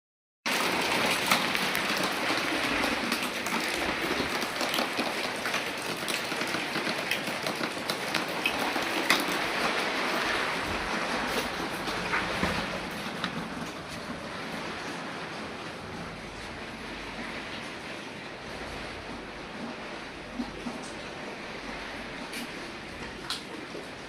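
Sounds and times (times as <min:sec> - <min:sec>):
heavy rain falling: 0:00.5 - 0:24.0.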